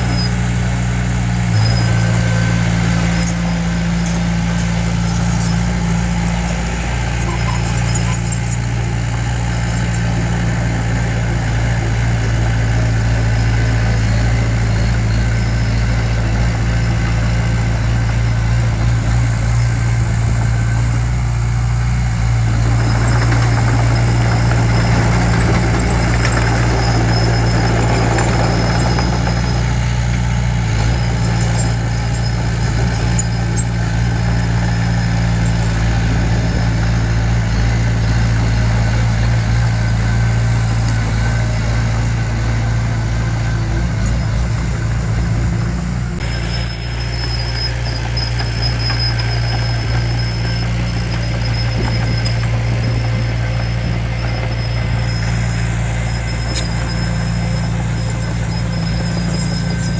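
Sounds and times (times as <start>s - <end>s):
diesel engine running: 0.0s - 59.9s
rough noisy sound: 0.0s - 59.9s.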